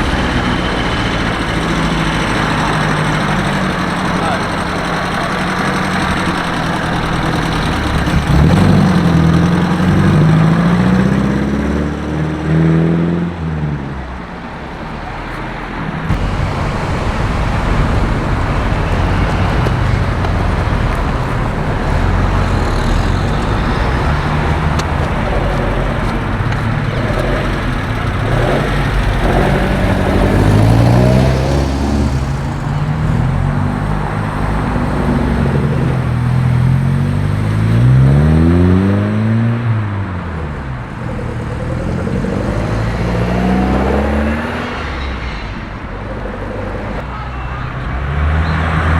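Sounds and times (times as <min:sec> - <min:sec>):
car engines accelerating: 0:00.0 - 0:48.9
road noise: 0:00.0 - 0:48.9.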